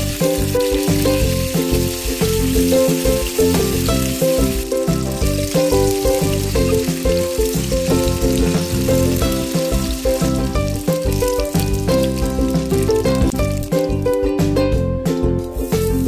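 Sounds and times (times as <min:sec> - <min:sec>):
tofu sizzling in oil: 0:00.0 - 0:14.6, 0:15.4 - 0:16.0
background music: 0:00.0 - 0:16.0.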